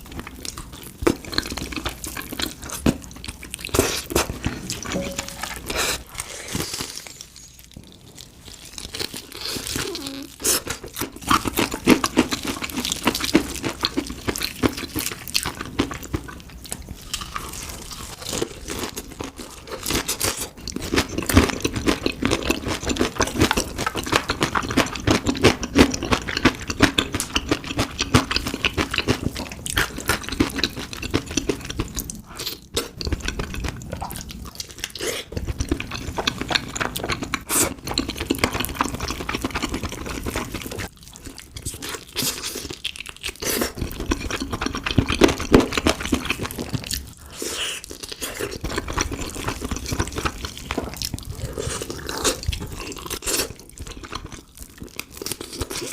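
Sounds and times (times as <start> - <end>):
crunching fried chicken: 0.0 - 55.9.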